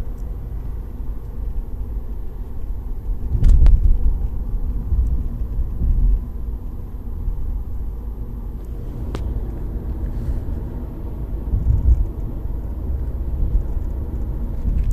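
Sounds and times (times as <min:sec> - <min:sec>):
car rumbling: 0:00.0 - 0:14.9.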